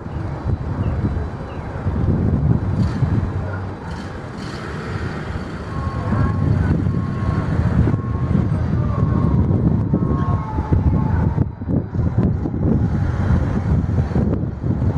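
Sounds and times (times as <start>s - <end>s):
low rumble of engines: 0.0s - 14.9s.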